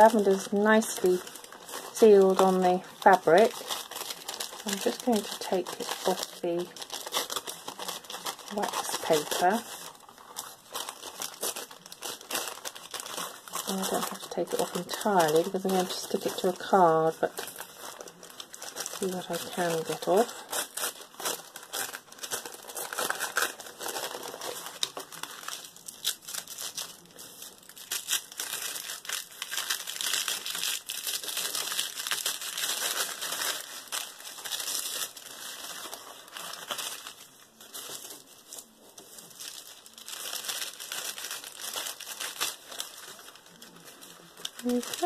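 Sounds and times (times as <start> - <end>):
paper crinkling and crackling: 0.0 - 45.0.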